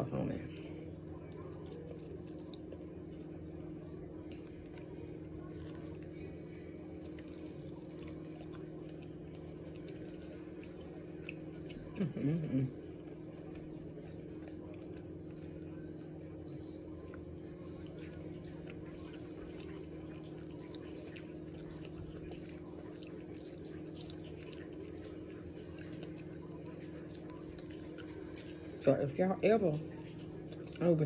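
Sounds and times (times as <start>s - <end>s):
low room hum: 0.0s - 31.0s
wet chewing and smacking: 0.5s - 31.0s.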